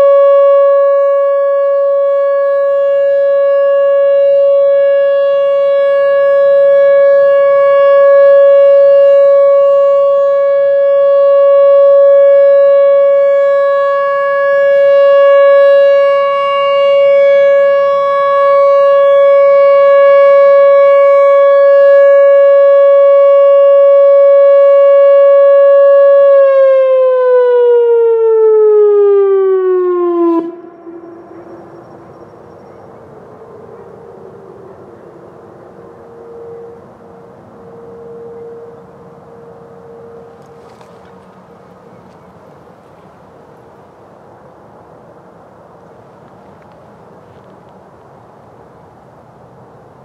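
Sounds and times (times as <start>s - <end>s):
electronic warning siren: 0.0s - 47.4s.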